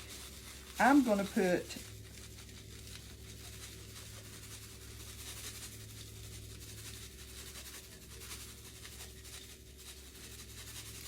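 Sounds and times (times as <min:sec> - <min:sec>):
breadcrumbs rustling and scratching: 0:00.0 - 0:11.0.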